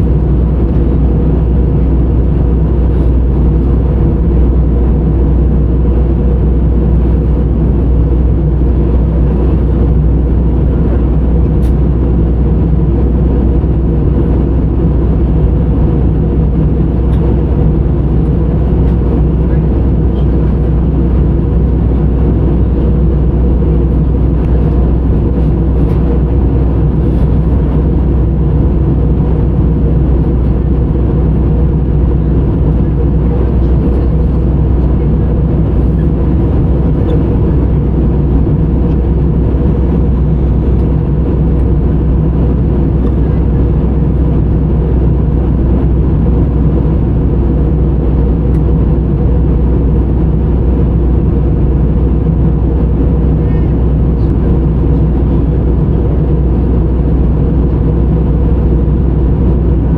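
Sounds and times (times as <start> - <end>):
jet engine cabin drone: 0.0 - 59.9.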